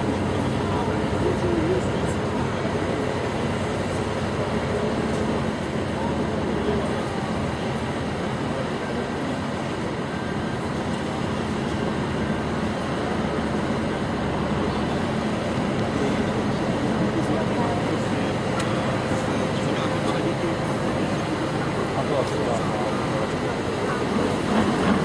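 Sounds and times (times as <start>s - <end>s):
spectators' voices: 0.0s - 25.0s
truck diesel engine running: 0.0s - 25.0s.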